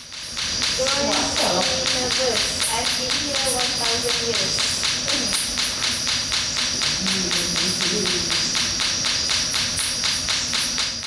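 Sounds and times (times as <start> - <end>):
rhythmic bursts of radio static: 0.3 - 10.8.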